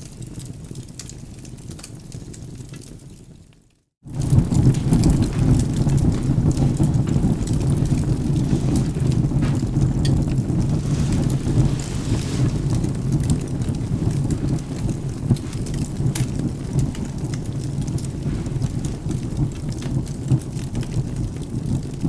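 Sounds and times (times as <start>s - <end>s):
rain: 0.0s - 22.0s
wood fire crackling and popping: 0.0s - 22.0s
thunder rumbling: 4.1s - 22.0s.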